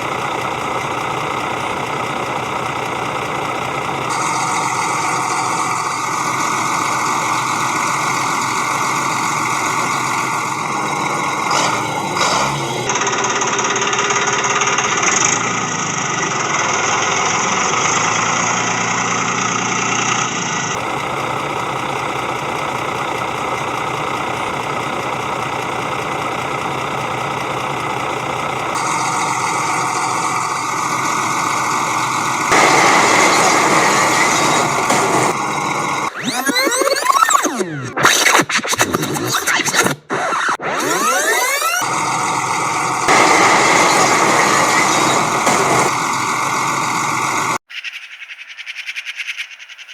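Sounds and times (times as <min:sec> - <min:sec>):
motor running: 0:00.0 - 0:47.7.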